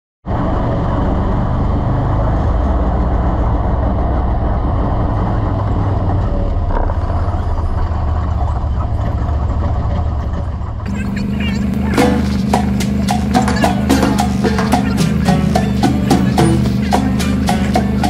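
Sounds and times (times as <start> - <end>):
gravel road noise: 0.3 - 18.0
vehicle engine running: 0.3 - 18.0.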